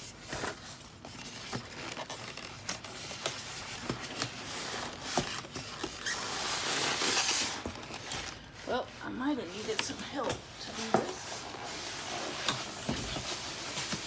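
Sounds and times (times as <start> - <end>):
cardboard and packing rustling: 0.0 - 14.0.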